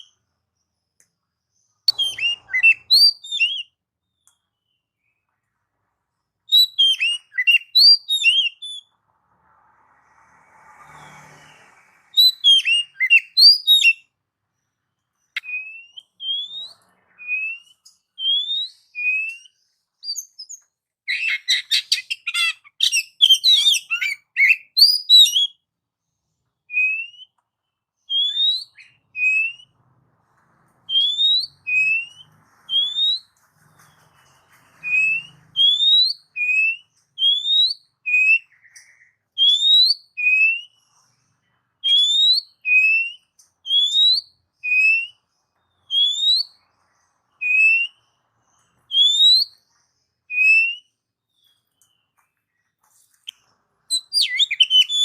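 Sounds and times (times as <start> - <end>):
bird whistled song: 0.0 - 1.1, 1.7 - 5.3, 6.4 - 9.0, 11.3 - 14.2, 15.1 - 25.6, 26.6 - 29.8, 30.9 - 41.1, 41.8 - 52.3, 53.2 - 55.0.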